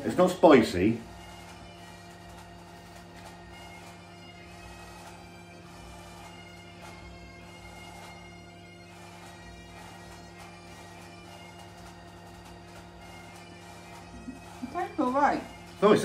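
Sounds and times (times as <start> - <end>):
bagpipe music: 0.0 - 16.0.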